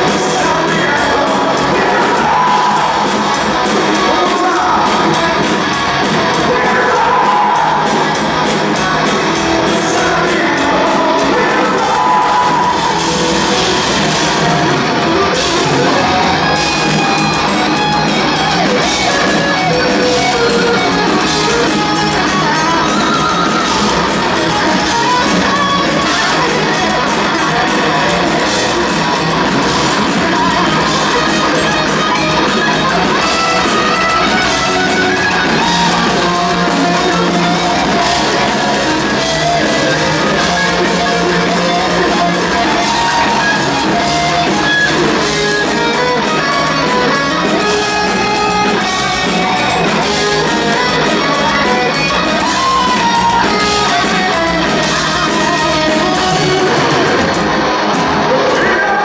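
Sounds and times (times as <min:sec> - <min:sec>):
electric guitars: 0:00.0 - 0:59.0
heavy metal band playing: 0:00.0 - 0:59.0.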